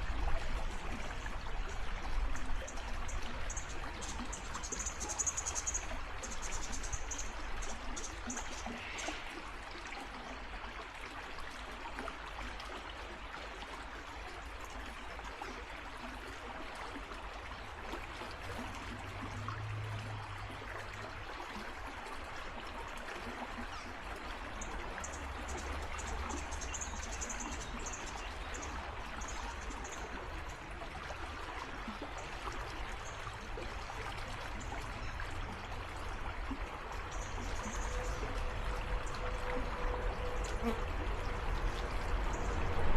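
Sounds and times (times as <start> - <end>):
creek water flowing: 0.0 - 42.9.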